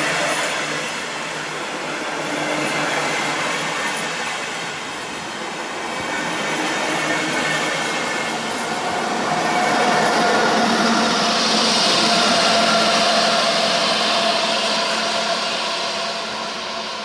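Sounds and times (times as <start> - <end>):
train wheels on rail: 0.0 - 17.0.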